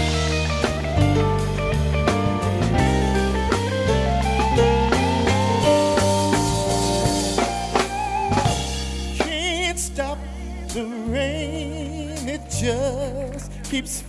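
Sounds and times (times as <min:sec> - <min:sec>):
melody with wide vibrato: 0:00.0 - 0:13.2
jazz band playing: 0:00.0 - 0:14.0.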